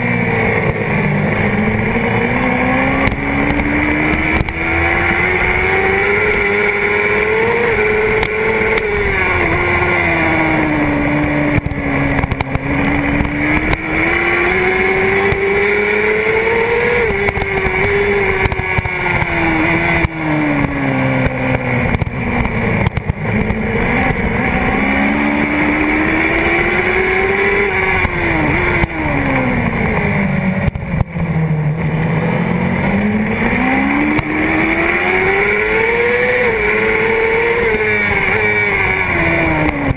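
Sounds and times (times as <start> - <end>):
motorcycle engine at racing revs: 0.0 - 39.9.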